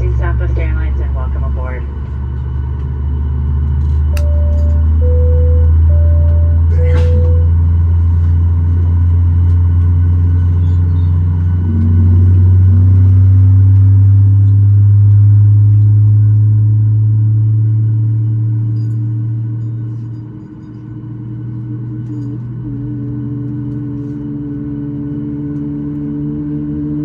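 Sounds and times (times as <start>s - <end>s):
airplane engine drone in cabin: 0.0s - 27.0s.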